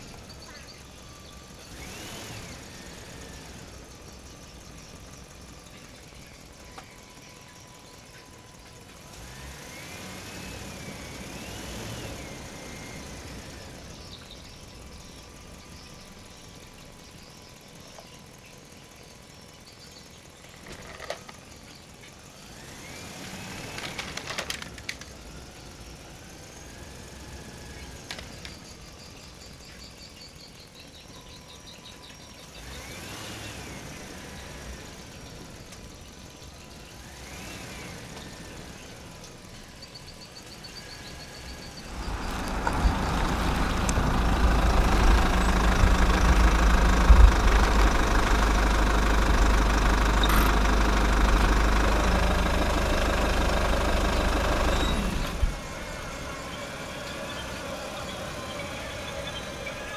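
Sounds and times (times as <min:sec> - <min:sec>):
engine rumbling: 0:00.0 - 0:59.9.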